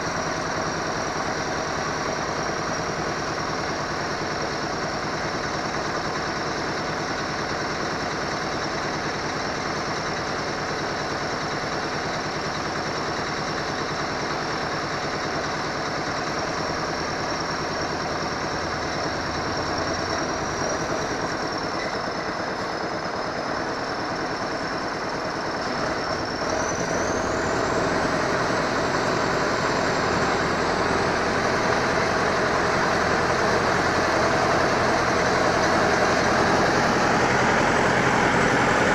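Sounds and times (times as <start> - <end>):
high engine whine: 0.0 - 38.9
truck diesel engine running: 0.0 - 38.9.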